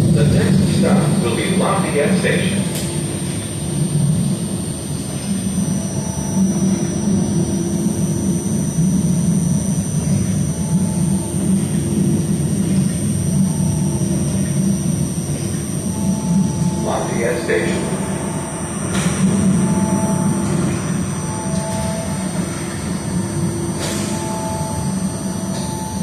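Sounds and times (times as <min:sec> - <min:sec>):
train car low rumble: 0:00.0 - 0:26.0.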